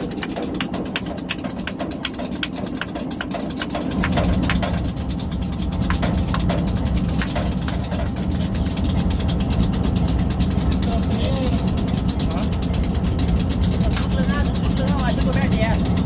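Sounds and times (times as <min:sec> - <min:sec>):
locomotive engine idling: 0:00.0 - 0:16.0.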